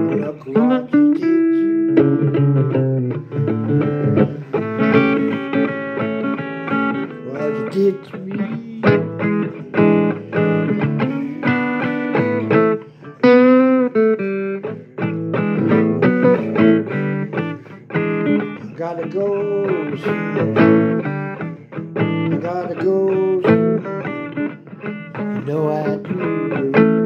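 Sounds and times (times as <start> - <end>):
blues guitar playing single notes: 0.0 - 27.0.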